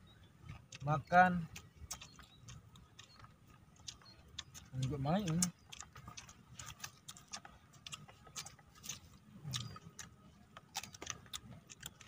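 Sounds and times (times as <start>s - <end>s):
people chewing crunchy food: 0.0s - 12.0s.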